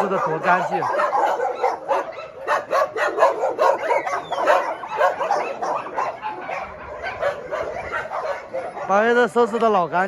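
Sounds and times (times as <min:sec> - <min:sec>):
dogs barking and yelping: 0:00.0 - 0:10.0.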